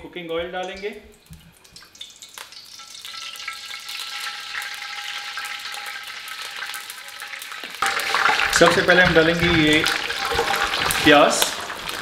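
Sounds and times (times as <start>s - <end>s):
oil sizzling in wok: 1.5s - 12.0s.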